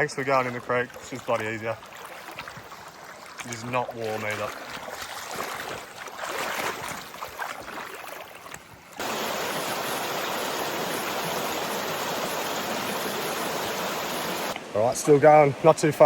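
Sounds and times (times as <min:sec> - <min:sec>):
feet splashing through water: 0:00.0 - 0:14.6
creek water rushing: 0:00.0 - 0:16.0.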